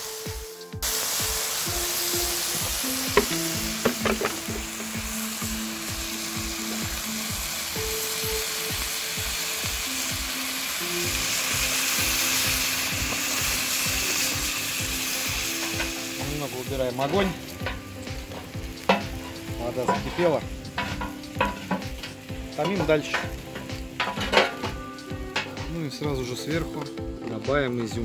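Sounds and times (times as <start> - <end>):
hot oil sizzling: 0.0 - 28.0
quiet background music: 0.0 - 28.0.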